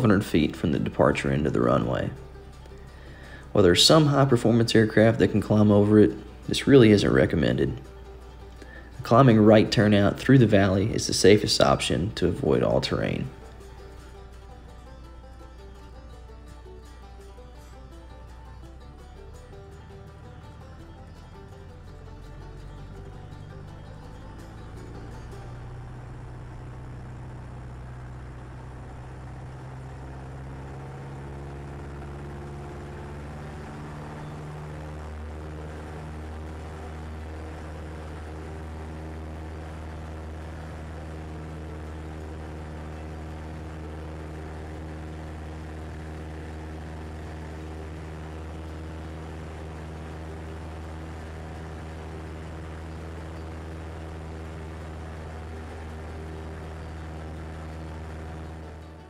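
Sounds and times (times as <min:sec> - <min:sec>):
propeller plane engine drone: 0:00.0 - 0:59.0.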